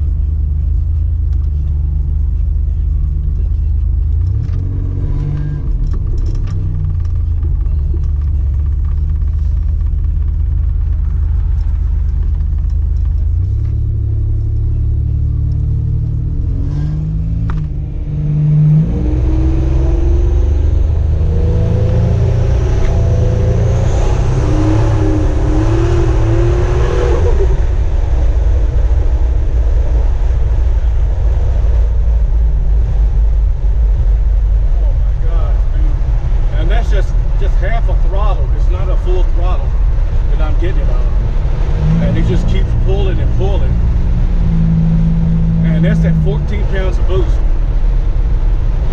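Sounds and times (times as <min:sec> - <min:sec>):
car engine accelerating hard: 0:00.0 - 0:48.9.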